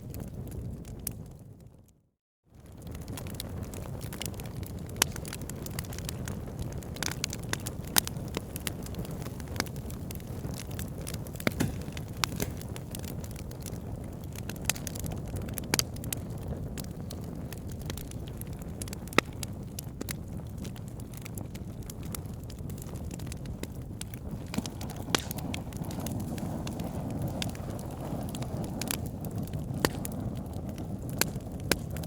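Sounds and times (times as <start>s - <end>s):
logs crackling and popping: 0.0s - 1.8s, 2.6s - 32.0s
wood fire rumbling: 2.6s - 32.0s.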